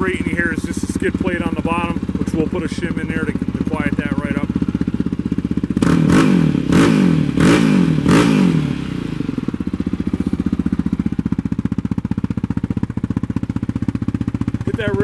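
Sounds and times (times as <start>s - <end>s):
quad bike engine idling and revving: 0.0s - 15.0s.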